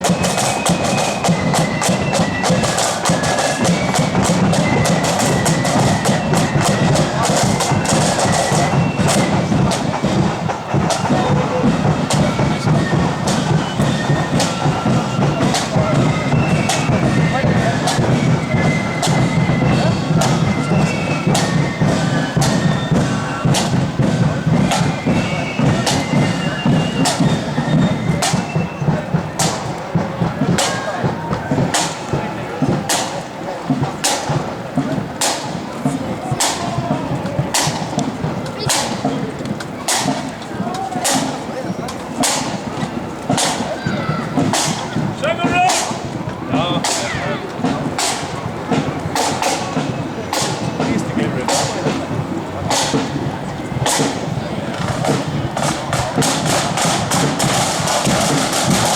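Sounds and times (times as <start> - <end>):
shrill flutes playing melody: 0.0 - 58.9
snare and bass drums beat: 0.0 - 58.9.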